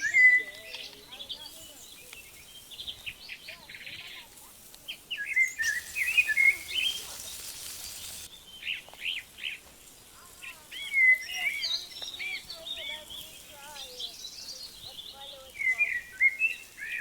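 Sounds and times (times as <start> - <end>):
steady hiss: 0.0 - 17.0
wild birds chirping and singing: 0.0 - 17.0.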